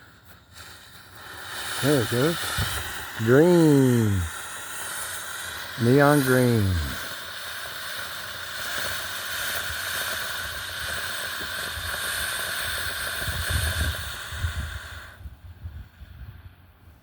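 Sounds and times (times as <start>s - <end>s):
fireworks fountain hissing: 0.0s - 17.0s.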